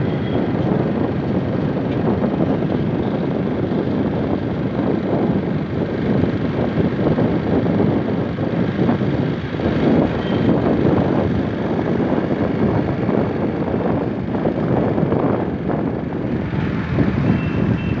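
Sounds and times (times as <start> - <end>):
road noise: 0.0 - 18.0
wind rumbling over microphone: 0.0 - 18.0.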